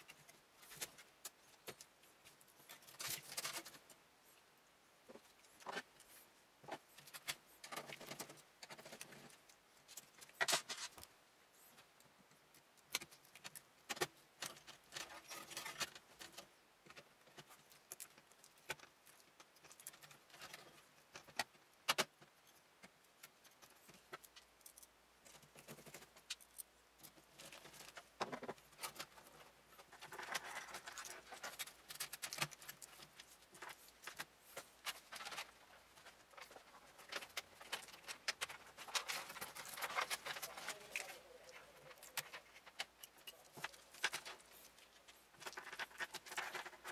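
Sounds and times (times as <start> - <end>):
cables clicking and rustling: 0.0 - 46.9.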